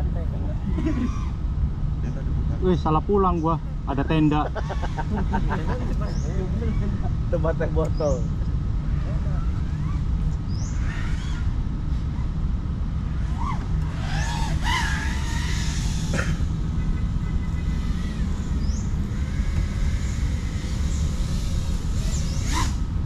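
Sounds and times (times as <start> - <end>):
quadcopter motor whine: 0.0 - 23.0
steady low rumble: 0.0 - 23.0.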